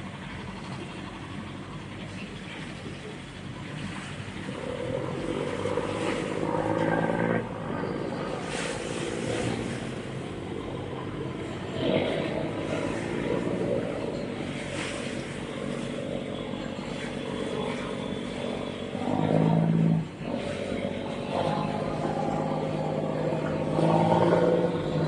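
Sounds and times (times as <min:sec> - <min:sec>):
ferry engine droning: 0:00.0 - 0:25.0
wind and water rushing: 0:00.0 - 0:25.0.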